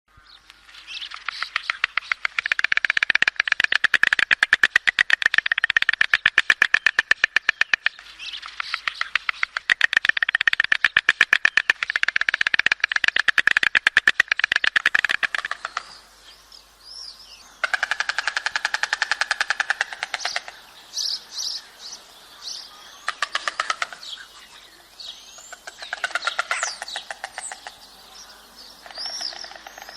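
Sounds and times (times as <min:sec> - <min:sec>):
stork clattering its bill: 0:01.0 - 0:16.0, 0:17.6 - 0:21.6, 0:22.4 - 0:24.2, 0:25.3 - 0:28.2, 0:28.8 - 0:29.9.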